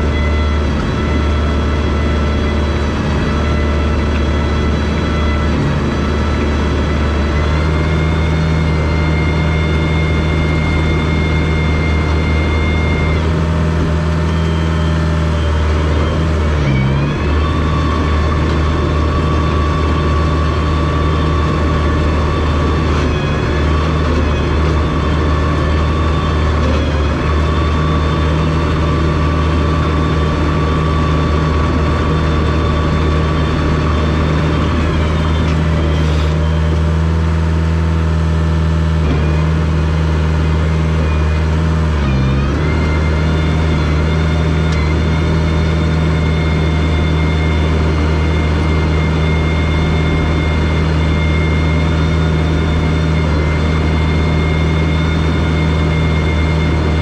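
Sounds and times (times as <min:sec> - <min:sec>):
bulldozer diesel engine running: 0:00.0 - 0:57.0
high whine changing pitch: 0:00.0 - 0:57.0.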